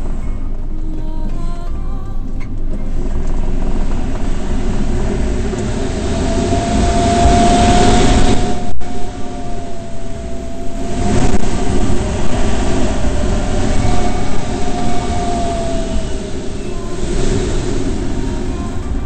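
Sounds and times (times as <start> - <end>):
airflow rushing over cockpit: 0.0 - 19.0
thin wind whistle: 0.0 - 19.0.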